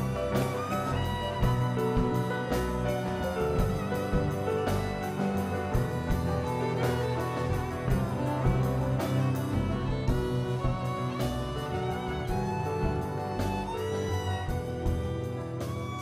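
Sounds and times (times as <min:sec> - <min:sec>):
string ensemble with keyboard: 0:00.0 - 0:16.0.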